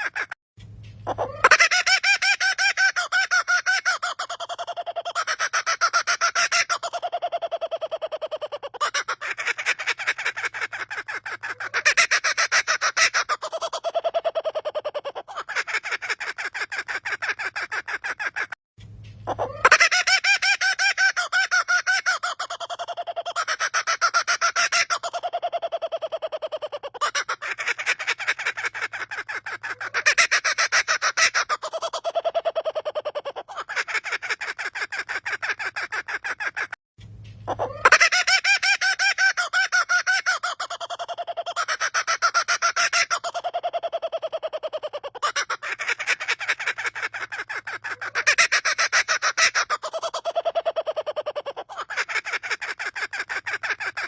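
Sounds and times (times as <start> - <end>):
bird laughing call: 0.0 - 18.6, 19.2 - 36.8, 37.4 - 54.0.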